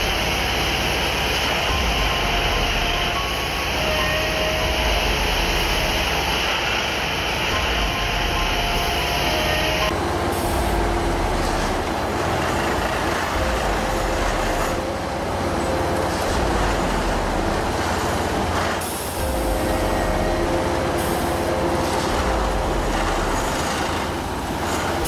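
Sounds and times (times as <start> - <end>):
diesel engine and hydraulics running: 0.0 - 25.0.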